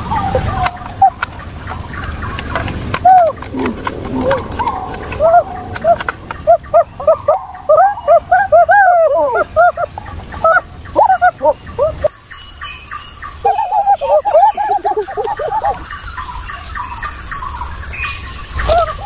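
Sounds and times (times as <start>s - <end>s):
chorus of bird-like animal calls: 0.0s - 19.0s.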